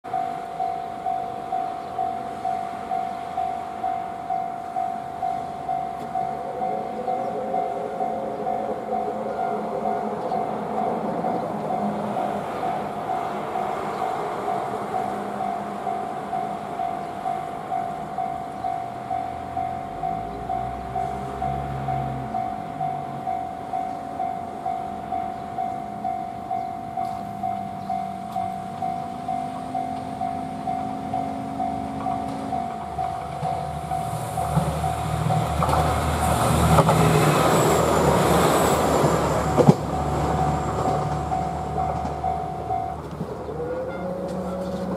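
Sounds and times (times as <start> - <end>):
level crossing bell ringing: 0.0 - 35.6, 40.0 - 44.9
diesel train hum: 0.0 - 44.9.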